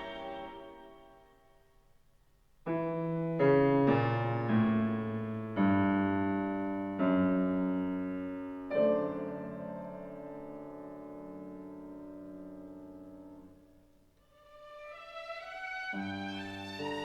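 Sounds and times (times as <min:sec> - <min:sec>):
slow piano chords: 0:00.0 - 0:01.7, 0:02.7 - 0:17.0.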